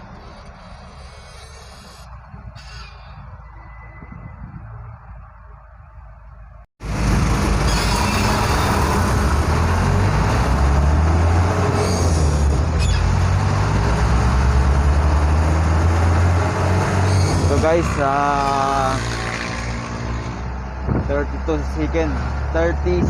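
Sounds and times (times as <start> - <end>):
road noise in cab: 0.0 - 23.0
truck engine droning: 0.0 - 23.0.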